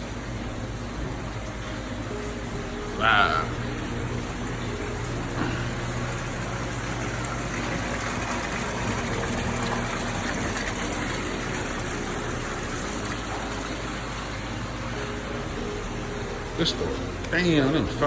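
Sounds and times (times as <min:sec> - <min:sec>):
pump hum: 0:00.0 - 0:18.0
running splashing water: 0:00.0 - 0:18.0.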